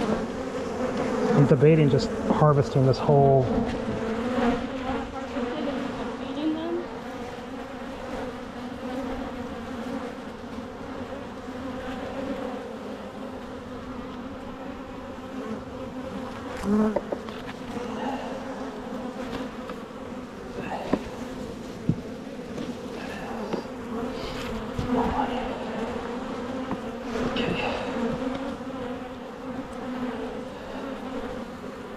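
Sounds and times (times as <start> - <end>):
honeybees buzzing: 0.0 - 31.9.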